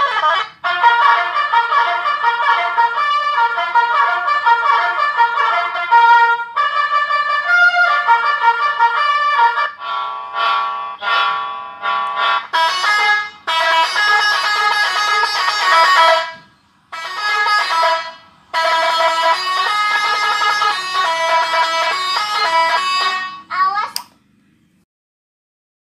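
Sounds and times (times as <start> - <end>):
electronic horn melody: 0.0 - 23.5.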